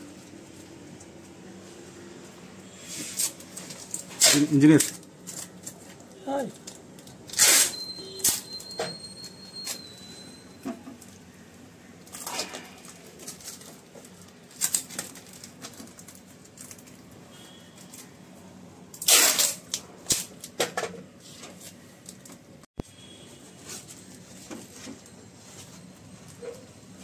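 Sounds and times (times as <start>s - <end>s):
tape crackling and rustling: 0.0s - 20.6s, 21.2s - 22.6s.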